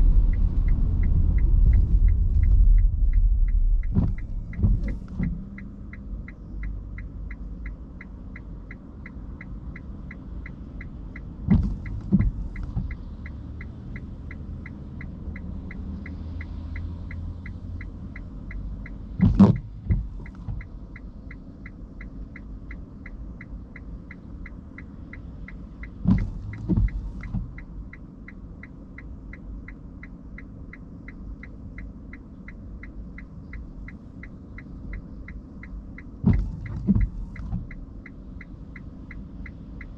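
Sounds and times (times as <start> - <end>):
steady low hum: 0.0 - 39.9
turn signal ticking: 0.0 - 39.9.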